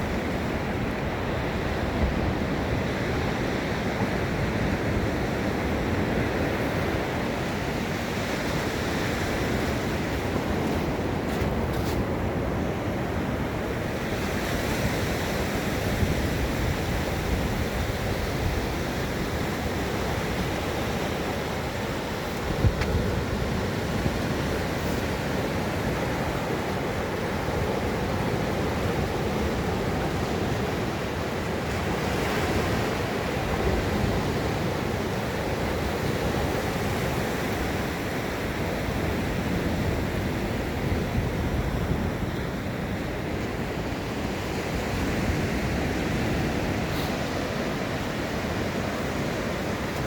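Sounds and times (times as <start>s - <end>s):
ocean surf washing onto beach: 0.0s - 50.0s
wind buffeting microphone: 0.0s - 50.0s.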